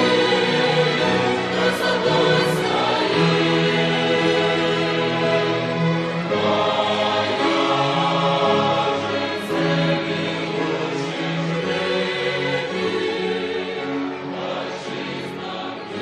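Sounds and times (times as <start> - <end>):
choir singing a slow hymn: 0.0 - 16.0.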